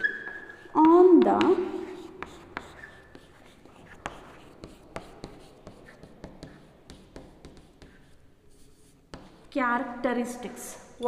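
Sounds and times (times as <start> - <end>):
chalk writing on a chalkboard: 0.0 - 9.6.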